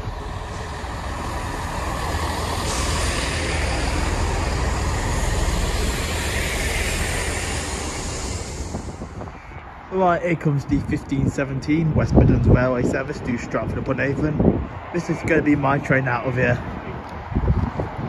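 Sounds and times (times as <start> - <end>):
train engine and wheel rumble: 0.0 - 18.0.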